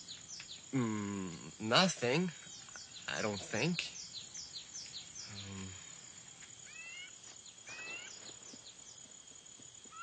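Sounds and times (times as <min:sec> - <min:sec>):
bird calls: 0:00.0 - 0:10.0
insect drone: 0:00.0 - 0:10.0.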